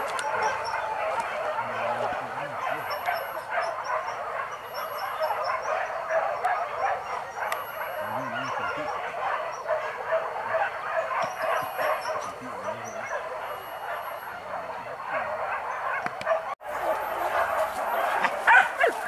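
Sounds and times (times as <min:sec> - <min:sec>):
dogs barking and yelping: 0:00.0 - 0:19.0.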